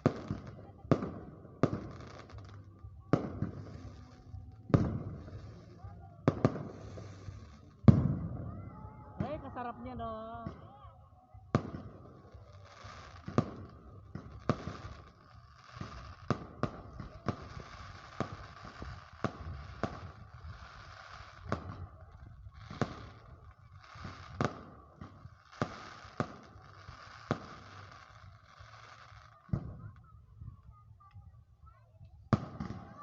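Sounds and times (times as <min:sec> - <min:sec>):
fireworks bangs: 0:00.0 - 0:10.9, 0:11.5 - 0:30.2, 0:32.3 - 0:33.0
fireworks crackling and hissing: 0:00.0 - 0:33.0.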